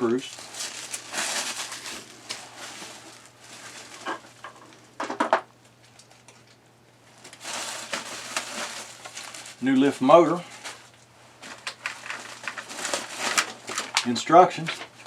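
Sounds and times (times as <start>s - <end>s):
plastic packaging crinkling: 0.0s - 5.0s, 5.8s - 15.0s.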